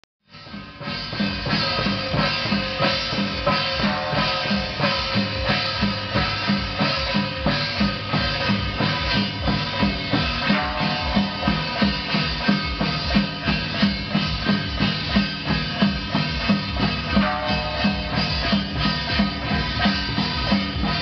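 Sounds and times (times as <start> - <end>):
barrel drum marching rhythm: 0.3 - 21.0
hand cymbals clashing: 0.3 - 21.0.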